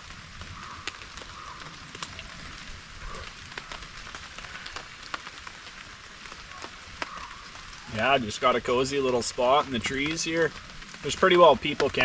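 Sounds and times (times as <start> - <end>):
light rain hissing on a tarp: 0.0 - 12.0.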